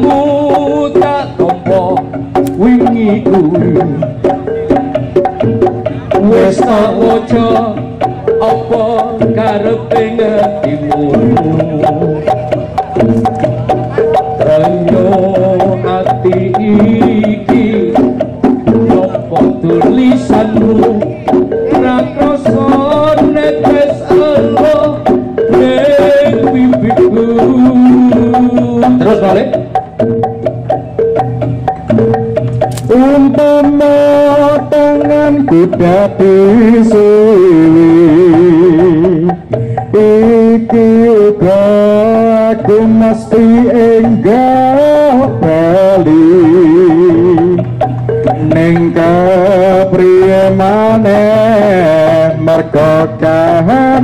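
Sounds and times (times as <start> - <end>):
drums: 0.0 - 54.0
struck wooden percussion: 0.0 - 54.0
wavering melodic line: 0.0 - 54.0.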